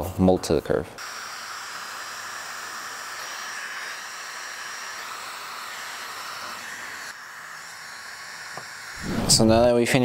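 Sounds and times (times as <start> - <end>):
heat gun running: 1.0 - 9.0.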